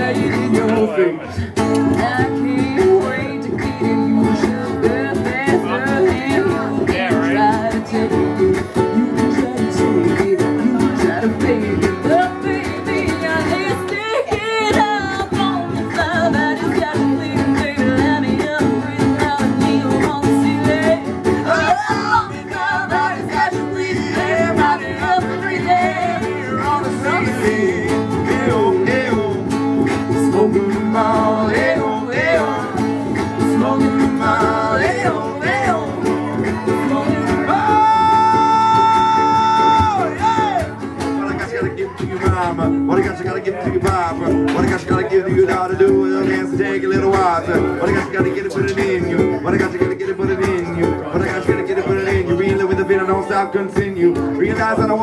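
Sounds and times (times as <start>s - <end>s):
acoustic guitar strumming: 0.0s - 55.0s
woman singing: 0.0s - 55.0s.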